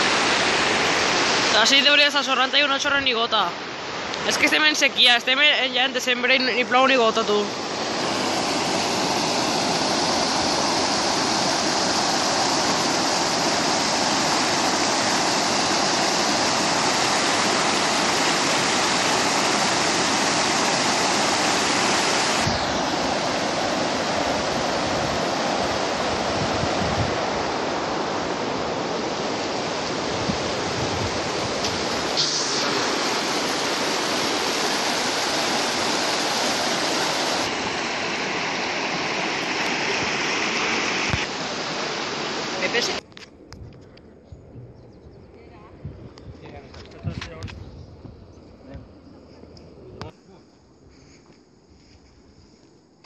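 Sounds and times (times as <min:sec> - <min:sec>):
river water rushing over weir: 0:00.0 - 0:43.0.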